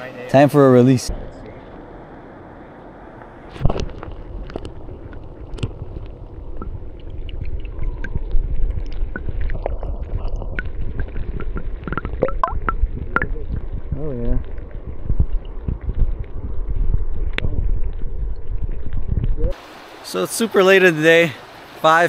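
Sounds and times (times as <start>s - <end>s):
underwater splash: 1.1s - 19.6s
muffled underwater river gurgling: 1.1s - 19.7s.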